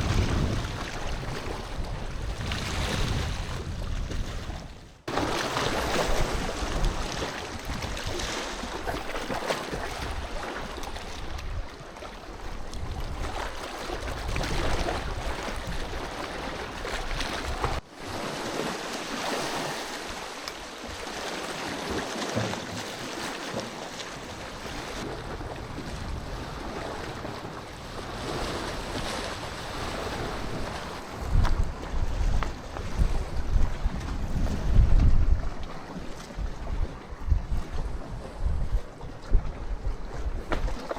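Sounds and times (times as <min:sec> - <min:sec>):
wind on microphone: 0:00.0 - 0:22.0, 0:24.2 - 0:40.9
sea waves washing on shore: 0:00.0 - 0:40.9.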